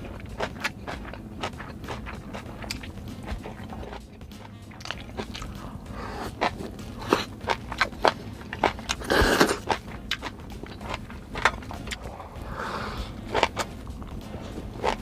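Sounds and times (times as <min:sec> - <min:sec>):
close-up chewing and biting: 0:00.0 - 0:15.0.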